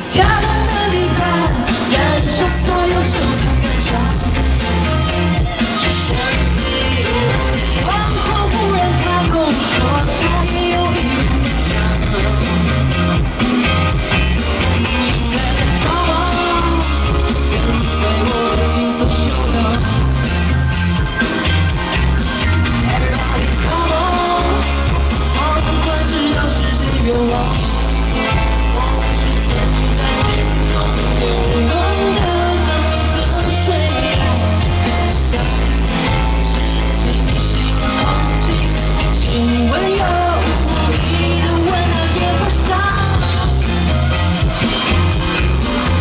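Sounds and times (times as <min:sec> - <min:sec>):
woman singing: 0:00.0 - 0:13.2, 0:14.8 - 0:20.3, 0:22.9 - 0:44.2
live pop-rock band: 0:00.0 - 0:46.0.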